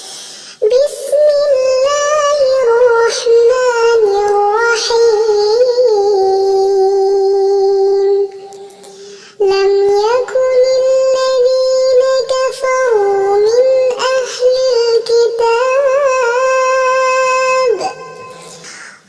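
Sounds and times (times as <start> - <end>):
high voice chanting: 0.0 - 19.0.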